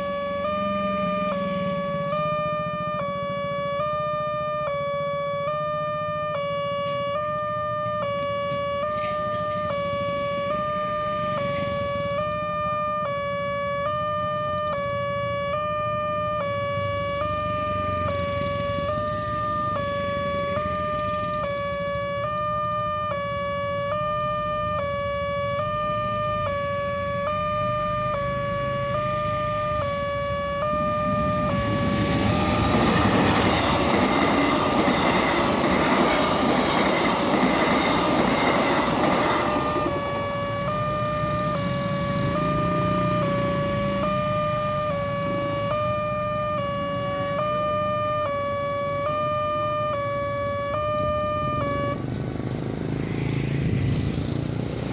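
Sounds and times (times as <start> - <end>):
level-crossing alarm two-tone: 0.0 - 52.0
train passing rumble: 0.0 - 54.9.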